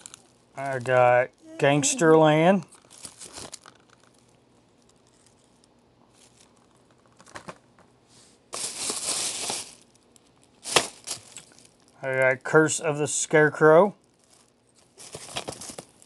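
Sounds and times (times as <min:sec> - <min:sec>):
plastic bag rustling: 0:00.0 - 0:07.6, 0:08.4 - 0:12.0, 0:14.1 - 0:16.0.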